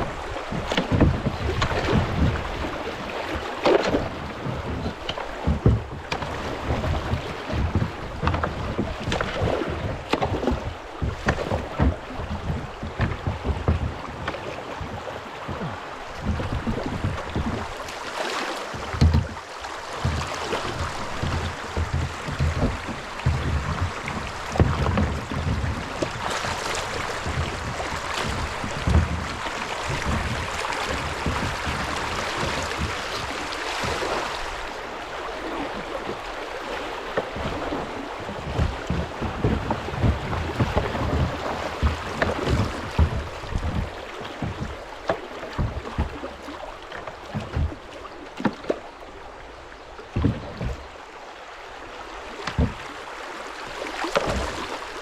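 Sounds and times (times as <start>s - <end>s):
paddle and hull thumps: 0.0s - 55.0s
water rushing and splashing: 0.0s - 55.0s.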